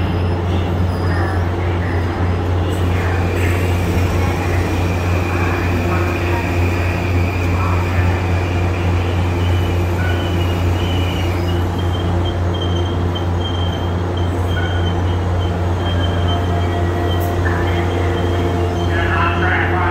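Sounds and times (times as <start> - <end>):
electric train hum: 0.0 - 19.9.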